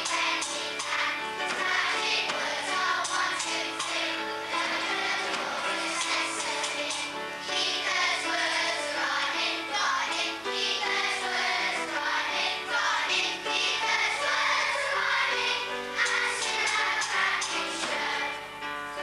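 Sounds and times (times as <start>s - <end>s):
children singing: 0.0s - 18.5s
musical accompaniment: 0.0s - 19.0s.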